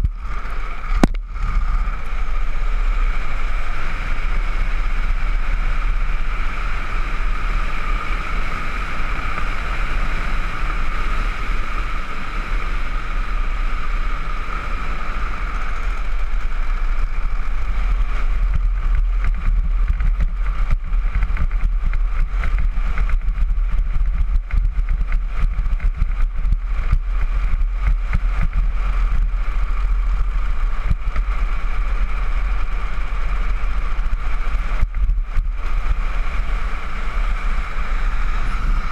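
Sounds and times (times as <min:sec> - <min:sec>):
rapid crackles: 0:00.0 - 0:38.9
steady high whine: 0:00.0 - 0:38.9
wheels rumbling on asphalt: 0:00.0 - 0:38.9
wind buffeting microphone: 0:00.0 - 0:38.9.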